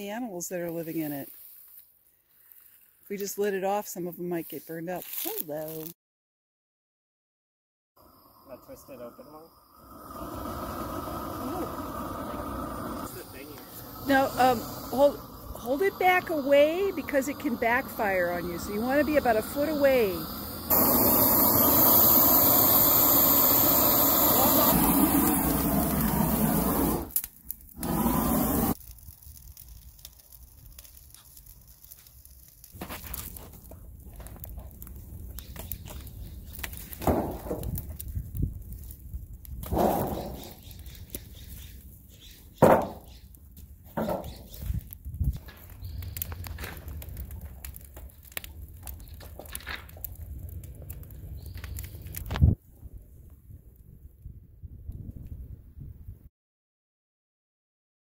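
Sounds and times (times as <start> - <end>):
fire crackling and popping: 8.7 - 55.4.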